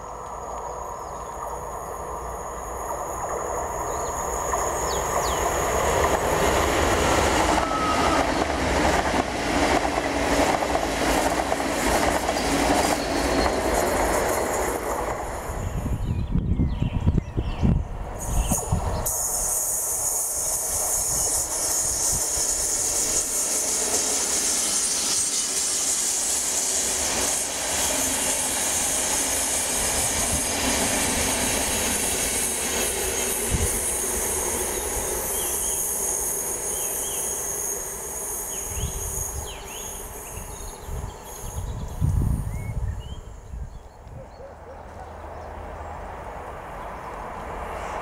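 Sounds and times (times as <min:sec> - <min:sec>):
passenger train passing at speed: 0:00.0 - 0:48.0.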